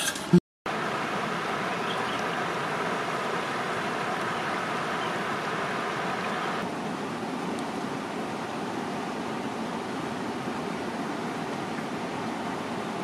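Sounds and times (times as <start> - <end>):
river flowing over rocks: 0.7 - 13.0.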